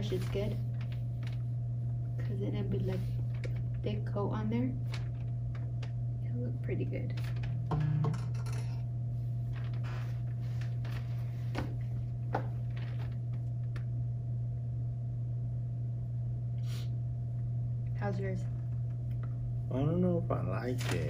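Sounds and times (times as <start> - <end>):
low room tone hum: 0.0 - 21.0.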